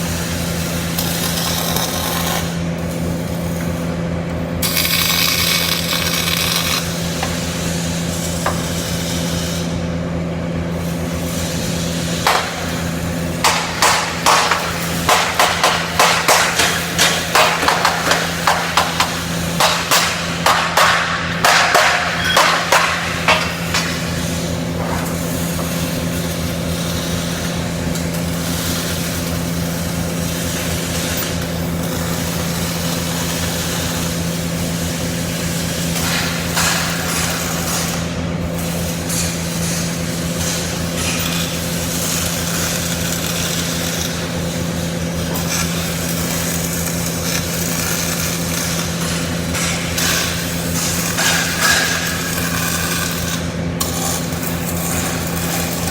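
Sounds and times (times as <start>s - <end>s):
low machine hum: 0.0s - 55.9s
welding arc crackling buzz: 0.0s - 55.9s.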